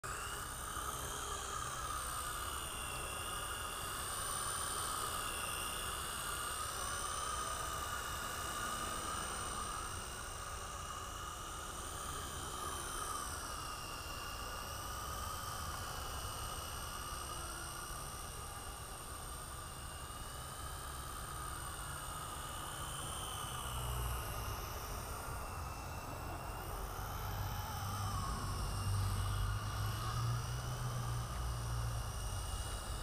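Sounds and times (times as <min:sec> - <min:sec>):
rc helicopter whining: 0:00.0 - 0:33.0.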